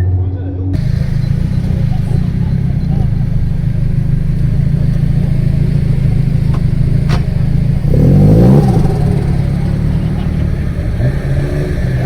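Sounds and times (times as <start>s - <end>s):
engine revving: 0.8s - 12.0s
loud car exhaust idling: 0.8s - 12.0s
sharp exhaust crack: 0.8s - 12.0s.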